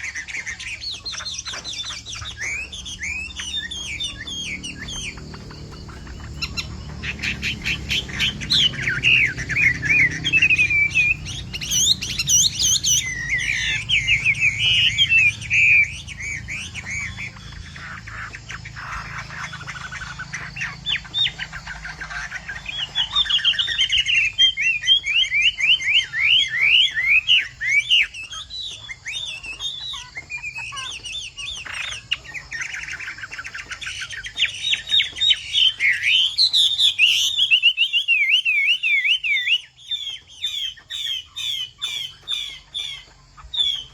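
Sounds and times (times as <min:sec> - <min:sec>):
bird singing whistled notes: 0:00.0 - 0:43.9.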